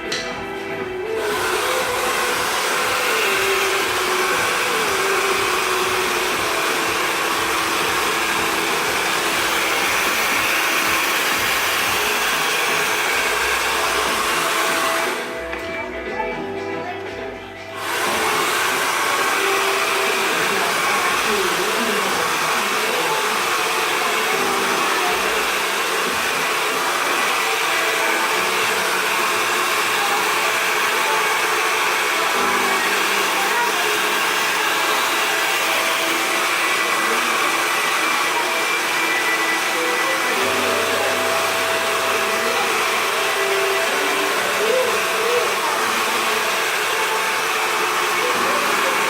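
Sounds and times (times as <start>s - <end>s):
hair dryer blowing: 0.0s - 15.6s, 17.6s - 49.0s.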